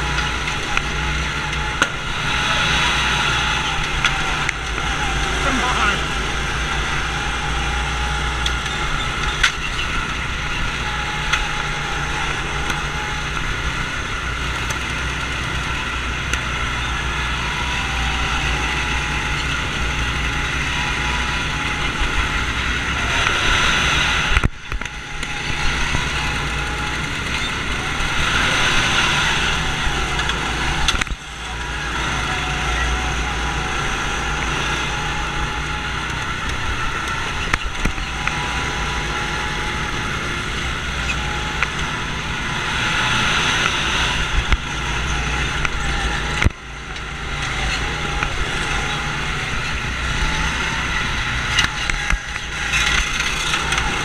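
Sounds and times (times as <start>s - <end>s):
go-kart engines running: 0.0s - 54.0s.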